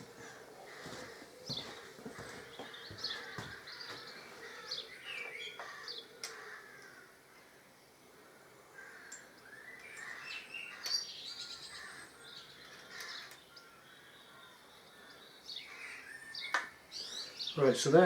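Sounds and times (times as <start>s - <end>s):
small birds chirping: 0.0s - 7.0s, 8.9s - 18.0s.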